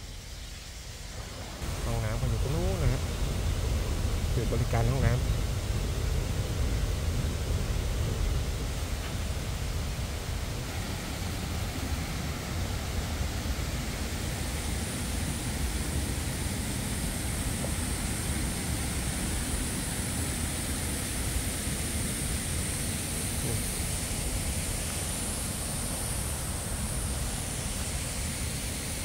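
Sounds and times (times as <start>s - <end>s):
high-pitched hiss: 0.0s - 29.0s
waterfall and stream rushing: 0.7s - 29.0s
low uneven rumble: 1.0s - 29.0s.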